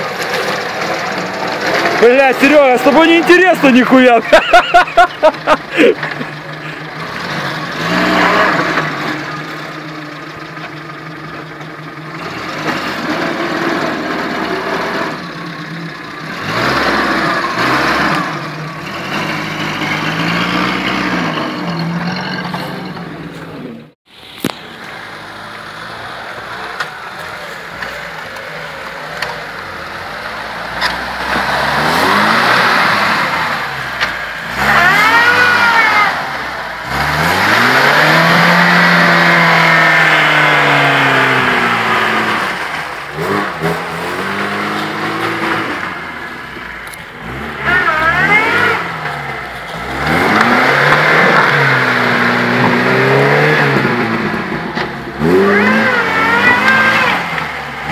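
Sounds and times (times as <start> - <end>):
off-road vehicle engine revving: 0.0 - 57.9.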